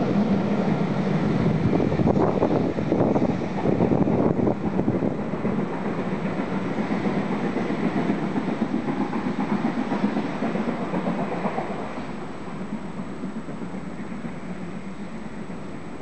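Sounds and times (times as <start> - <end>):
train wheels clattering on rail: 0.0 - 16.0.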